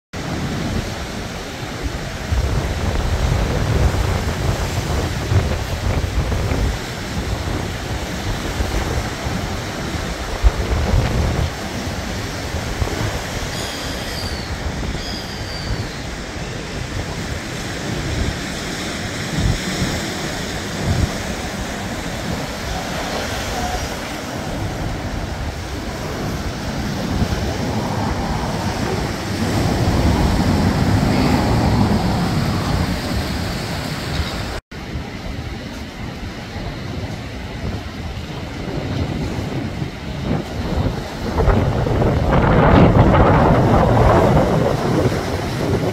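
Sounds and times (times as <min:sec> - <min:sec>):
surf washing onto rocks: 0:00.2 - 0:45.9
wind buffeting microphone: 0:00.2 - 0:45.9.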